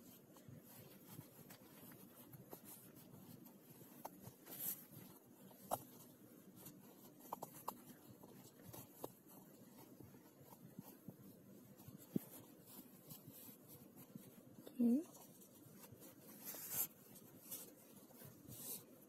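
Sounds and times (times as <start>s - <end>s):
faint cloth rustling: 0.0s - 19.0s.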